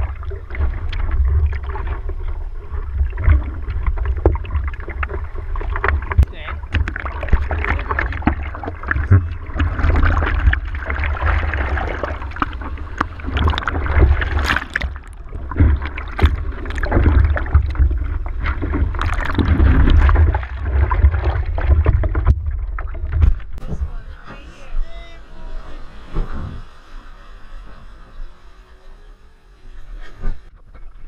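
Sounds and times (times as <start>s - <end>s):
seawater splashing over surfboard: 0.0s - 27.0s
steady low rumble: 0.0s - 28.9s.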